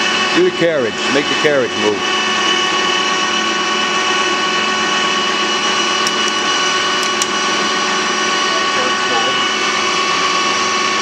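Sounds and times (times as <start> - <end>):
lathe gear whine: 0.0 - 11.0.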